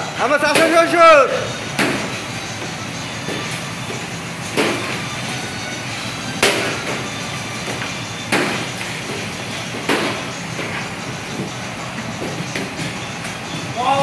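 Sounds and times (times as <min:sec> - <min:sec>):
steady rush of fans: 0:00.0 - 0:14.0.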